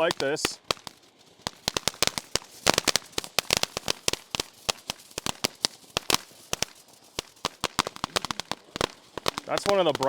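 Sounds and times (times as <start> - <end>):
firework popping cracks: 0.0 - 10.0.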